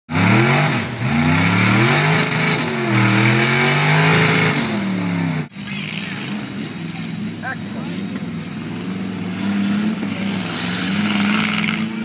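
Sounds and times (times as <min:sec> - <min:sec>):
truck engine revving: 0:00.1 - 0:12.0.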